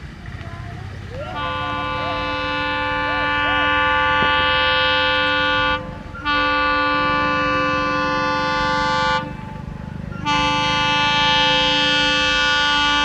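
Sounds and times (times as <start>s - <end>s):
low engine rumble: 0.0s - 13.0s
locomotive horn blasts: 1.3s - 13.0s.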